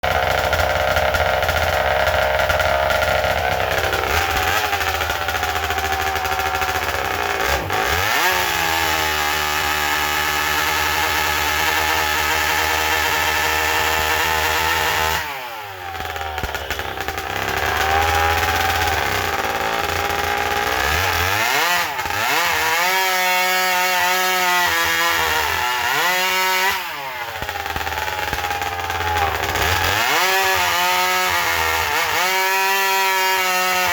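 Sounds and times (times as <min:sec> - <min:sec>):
chainsaw running at high revs: 0:00.0 - 0:33.9.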